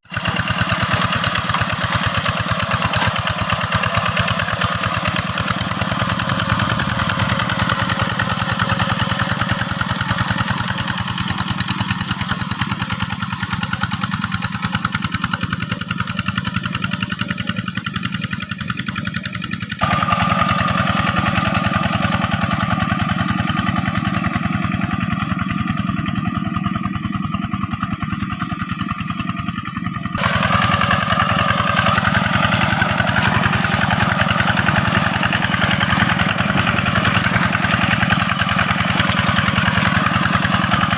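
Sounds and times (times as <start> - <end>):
hand tractor diesel engine running: 0.0 - 40.9.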